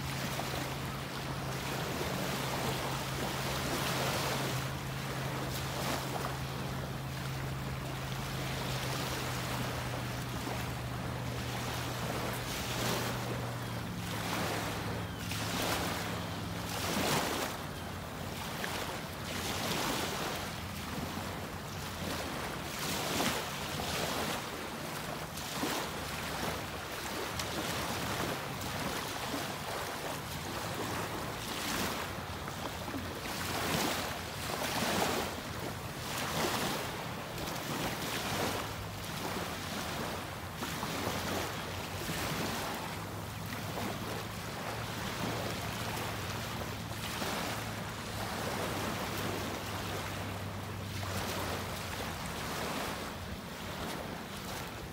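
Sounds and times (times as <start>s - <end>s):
small waves lapping on beach: 0.0s - 54.9s
wind: 0.0s - 54.9s.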